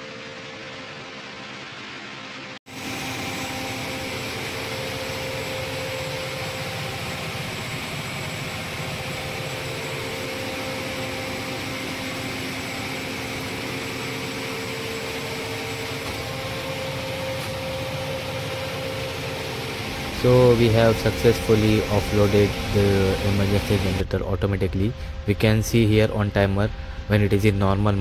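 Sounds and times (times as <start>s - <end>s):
diesel generator running: 0.0s - 28.0s.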